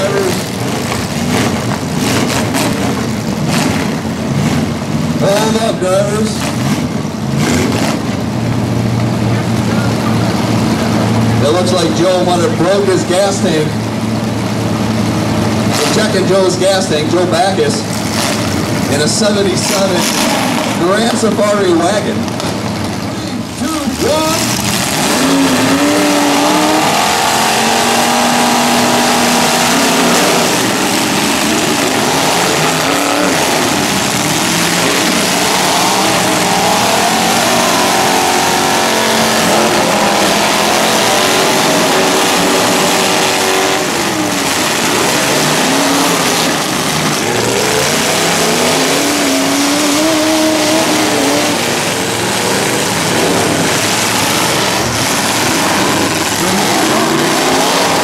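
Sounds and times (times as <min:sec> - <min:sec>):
derby car engines revving: 0:00.0 - 0:58.0.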